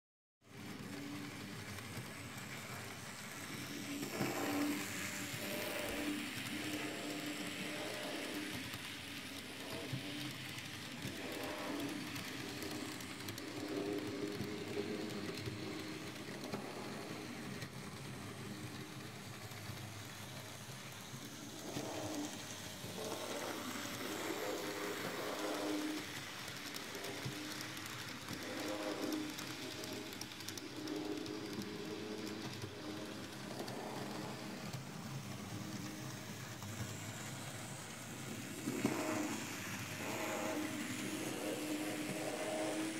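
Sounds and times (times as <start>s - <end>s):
model train motor whir: 0.5s - 42.9s.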